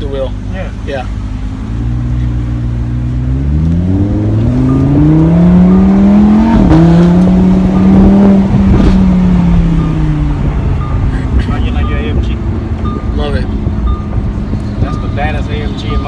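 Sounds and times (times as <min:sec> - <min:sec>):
sports car engine accelerating: 0:00.4 - 0:16.0.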